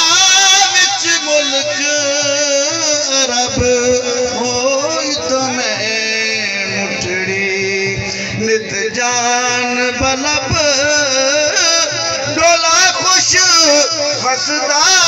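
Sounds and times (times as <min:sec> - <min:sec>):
man singing into a microphone: 0:00.0 - 0:15.0
musical accompaniment: 0:00.0 - 0:15.0.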